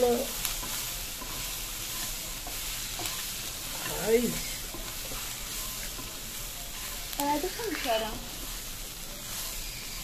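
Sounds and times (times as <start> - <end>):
food sizzling in a pan: 0.0 - 10.0
wooden spatula scraping a pan: 0.0 - 10.0.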